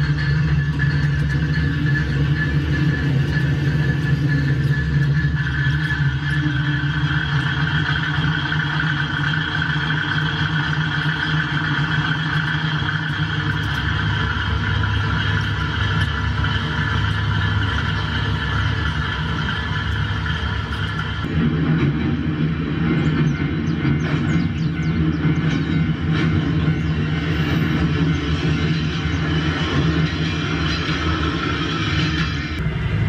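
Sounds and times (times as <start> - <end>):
model train motor hum and whine: 0.0 - 33.0.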